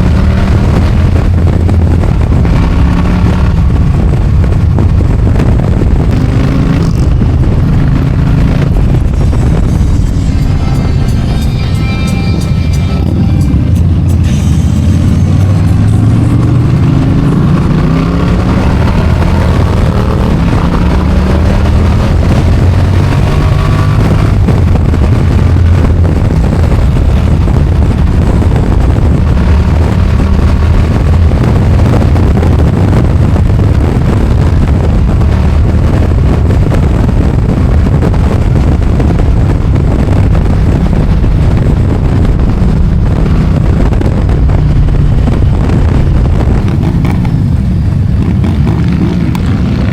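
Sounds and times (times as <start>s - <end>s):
motorcycle engine shifting gears: 0.0s - 49.9s
wind noise: 0.0s - 49.9s.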